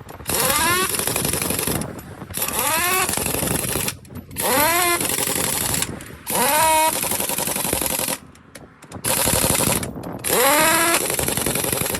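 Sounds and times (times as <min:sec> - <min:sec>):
pneumatic impact wrench hammering: 0:00.0 - 0:11.9.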